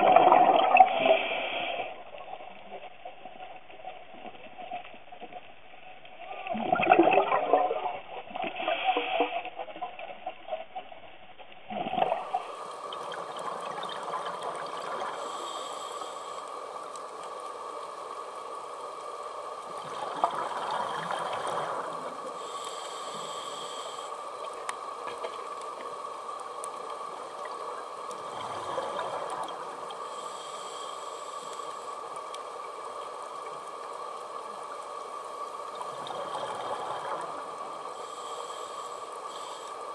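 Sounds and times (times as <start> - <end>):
scuba exhaled bubbles gurgling: 0.0 - 4.8, 6.2 - 10.5, 11.6 - 39.9
faint steady whine: 0.0 - 39.9
steady hiss: 0.8 - 6.4, 12.1 - 39.9.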